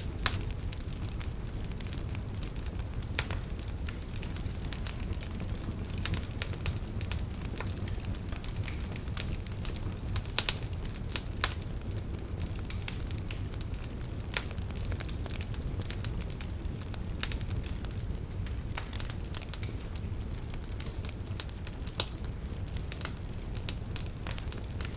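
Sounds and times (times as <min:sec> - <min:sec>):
campfire crackling and popping: 0:00.0 - 0:24.9
low fire rumble: 0:00.0 - 0:24.9.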